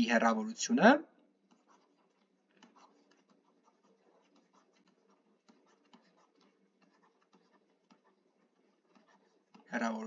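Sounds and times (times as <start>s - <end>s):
stylus writing on a tablet: 1.2s - 10.0s.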